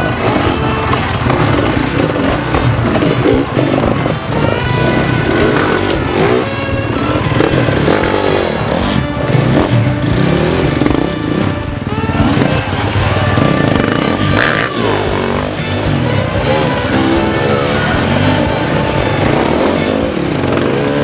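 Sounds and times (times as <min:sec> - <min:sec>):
background music: 0:00.0 - 0:21.0
dirt bike engines revving: 0:00.0 - 0:21.0.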